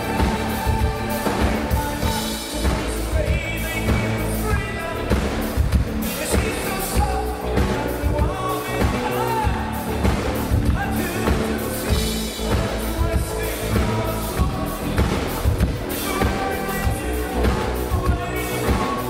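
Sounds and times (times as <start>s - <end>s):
man singing: 0.0s - 19.0s
steady drum beat: 0.0s - 19.0s
synthesizers: 0.0s - 19.0s.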